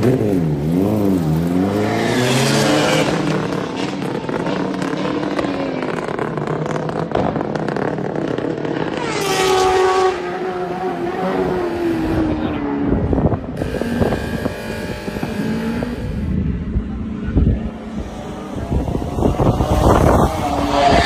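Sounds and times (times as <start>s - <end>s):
racing motorcycle passing at speed: 0.0s - 21.0s.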